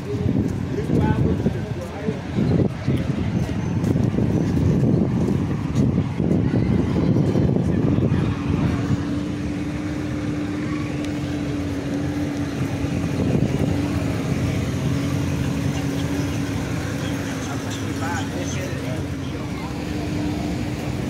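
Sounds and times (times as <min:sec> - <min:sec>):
car engines running: 0:00.0 - 0:21.0.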